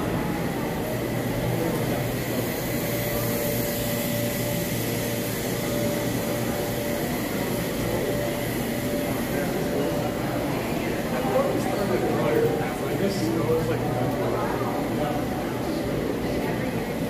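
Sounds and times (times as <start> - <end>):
mechanical hum with high whine: 0.0 - 17.0.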